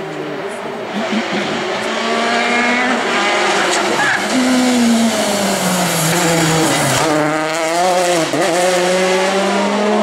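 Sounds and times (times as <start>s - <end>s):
rally car engine passing: 0.0s - 10.0s.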